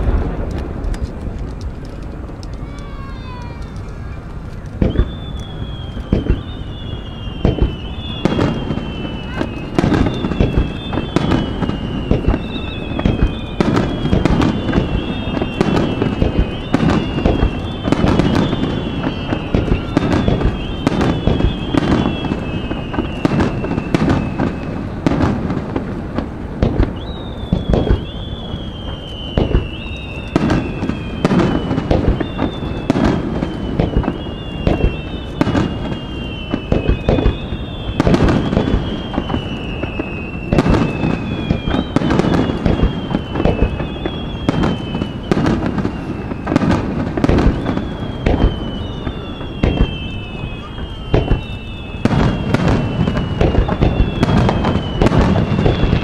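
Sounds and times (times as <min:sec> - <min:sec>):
descending firework whistles: 0:00.0 - 0:56.0
fireworks bangs and crackle: 0:00.0 - 0:56.0.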